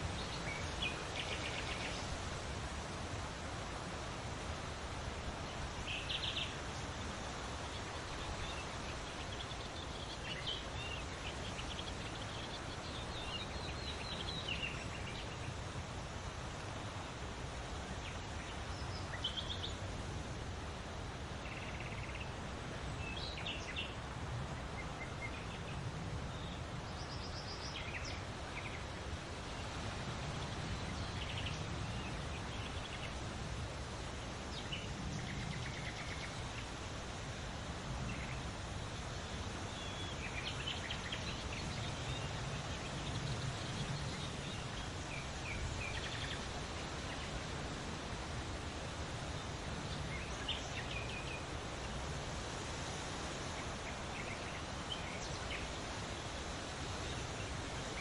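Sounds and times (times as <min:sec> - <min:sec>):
leaves rustling in wind: 0:00.0 - 0:58.0.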